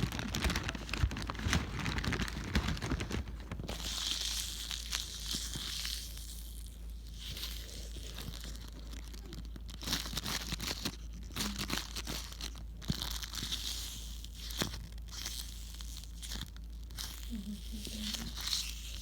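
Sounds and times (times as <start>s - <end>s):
crinkling and crackling: 0.0s - 19.0s
steady low hum: 0.0s - 19.0s.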